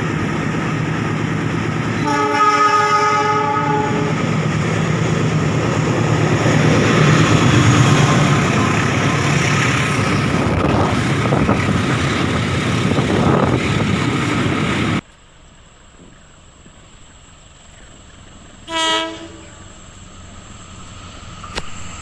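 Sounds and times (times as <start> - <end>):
train rushing past: 0.0 - 15.0, 17.7 - 22.0.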